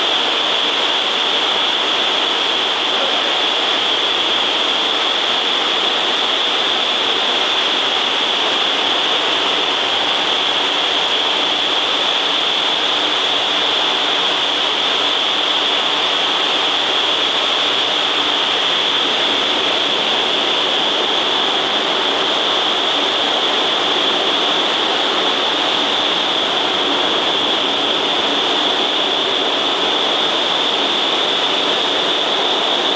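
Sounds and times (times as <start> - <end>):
high-pitched hiss: 0.0 - 32.9
wind tunnel fans rushing air: 0.0 - 32.9.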